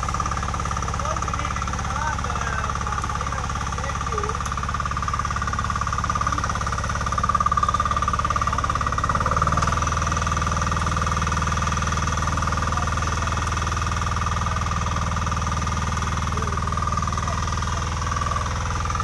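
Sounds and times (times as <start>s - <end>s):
diesel engine chugging: 0.0s - 19.0s
rotary tines tilling soil: 0.0s - 19.0s.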